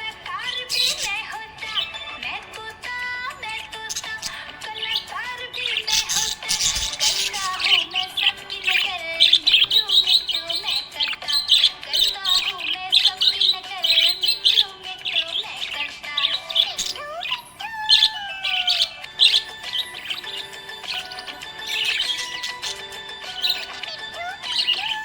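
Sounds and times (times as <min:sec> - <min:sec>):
budgerigar chirping and warbling: 0:00.0 - 0:25.0
music playing: 0:00.0 - 0:25.0.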